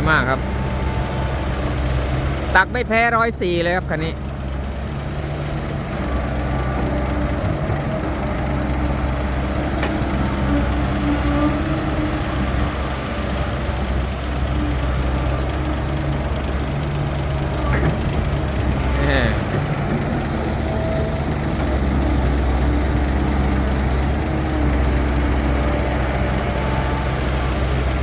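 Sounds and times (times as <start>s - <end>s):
diesel engines rumbling: 0.0s - 28.0s.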